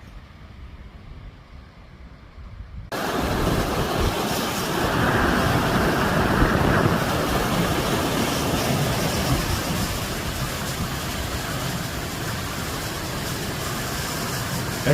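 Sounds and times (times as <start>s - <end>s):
river rapids rushing: 2.9s - 14.9s.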